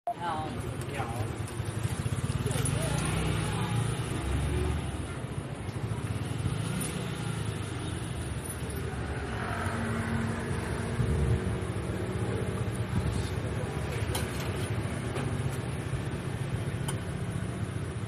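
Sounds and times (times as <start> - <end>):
low rumble of road traffic: 0.1 - 18.0.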